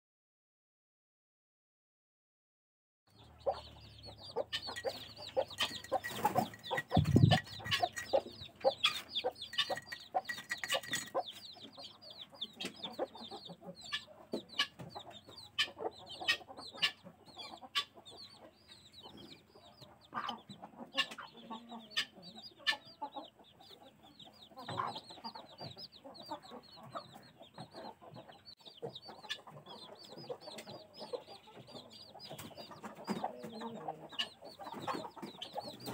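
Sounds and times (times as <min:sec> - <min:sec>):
chicks peeping: 0:03.1 - 0:35.9
hen clucking: 0:03.1 - 0:35.9.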